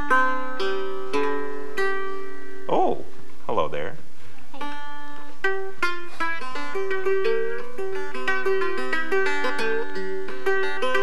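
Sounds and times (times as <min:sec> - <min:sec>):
banjo picking a tune: 0:00.0 - 0:03.2, 0:04.5 - 0:11.0.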